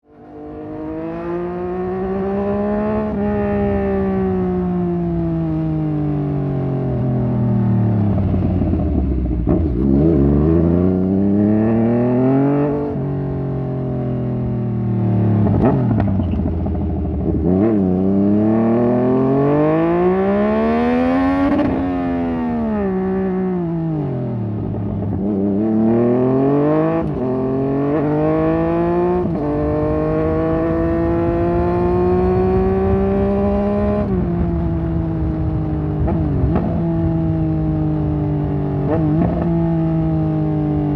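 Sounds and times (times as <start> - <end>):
motorcycle engine revving: 0.1 - 40.9.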